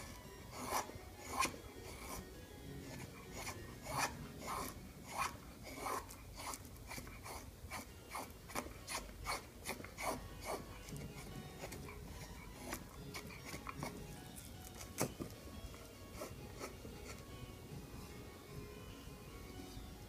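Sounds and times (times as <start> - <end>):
knife scraping wood: 0.0 - 17.3.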